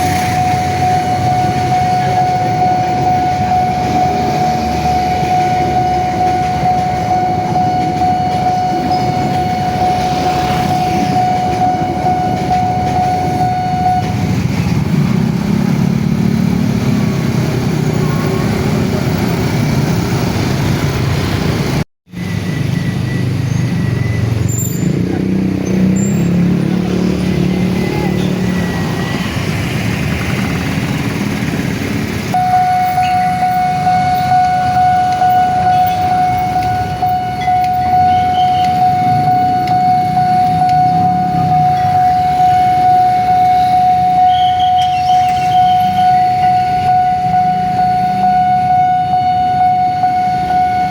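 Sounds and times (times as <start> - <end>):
level crossing alarm tone: 0.0 - 50.9.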